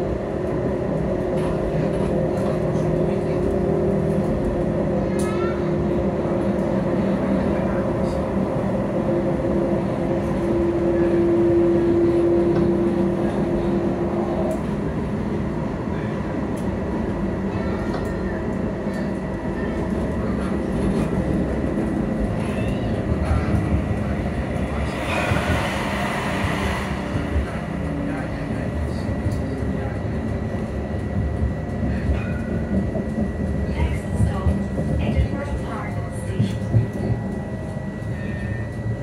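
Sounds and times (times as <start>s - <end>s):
tram wheels rumbling: 0.0s - 39.0s.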